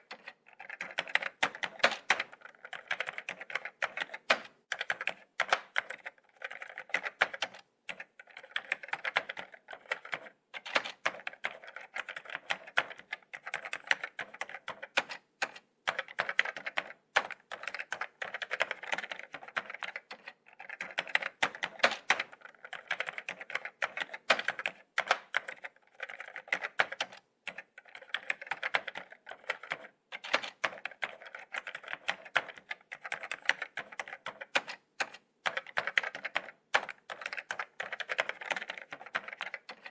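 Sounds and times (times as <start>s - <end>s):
laptop keyboard typing: 0.0s - 39.9s.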